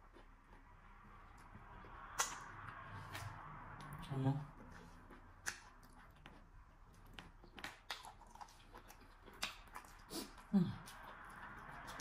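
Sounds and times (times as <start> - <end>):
wet chewing and mouth smacks: 0.0 - 12.0.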